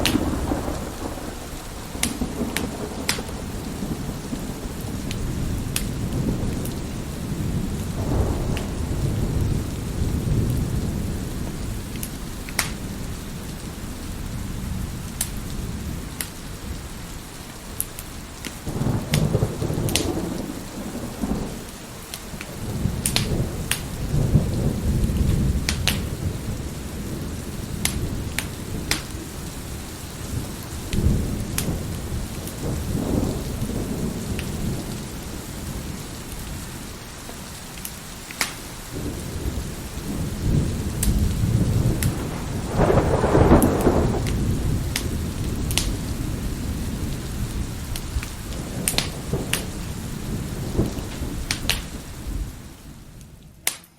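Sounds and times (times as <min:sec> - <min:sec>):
wood fire crackling: 0:00.0 - 0:09.0, 0:09.6 - 0:16.5, 0:17.2 - 0:52.3, 0:53.2 - 0:53.9
thunder rolling: 0:00.0 - 0:16.8, 0:18.6 - 0:21.7, 0:22.4 - 0:36.9, 0:38.9 - 0:53.1
steady rain: 0:00.0 - 0:53.9.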